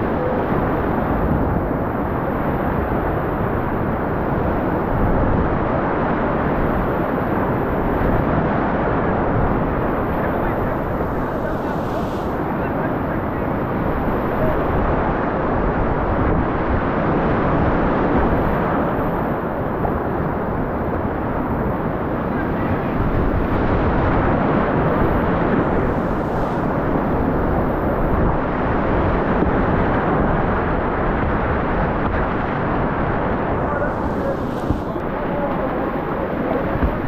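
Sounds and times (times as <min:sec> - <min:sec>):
whitewater rapids rushing: 0:00.0 - 0:16.2, 0:22.3 - 0:37.0.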